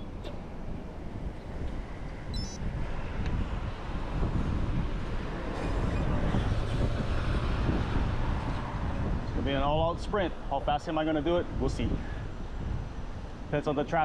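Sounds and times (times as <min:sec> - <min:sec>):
low road rumble: 0:00.0 - 0:14.0
wind rushing over microphone: 0:00.0 - 0:14.0.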